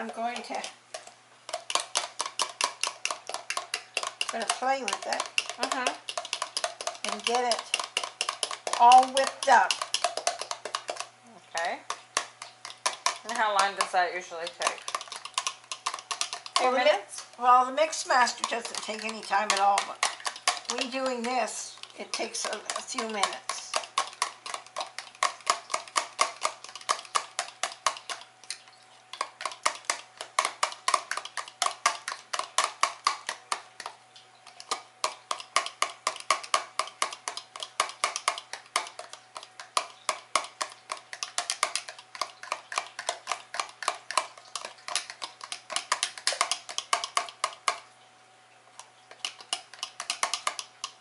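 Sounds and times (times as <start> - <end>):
fork beating egg whites in cup: 0.0 - 48.0, 48.7 - 51.0.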